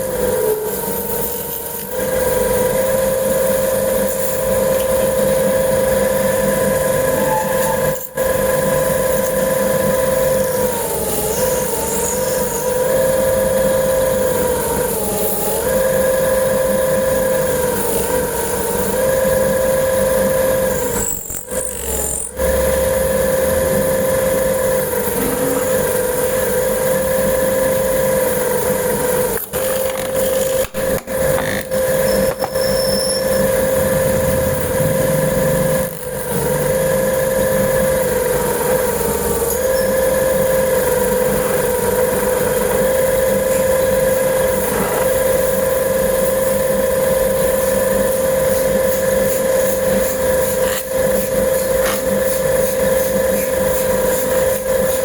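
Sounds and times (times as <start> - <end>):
machine motor hum: 0.0 - 55.0.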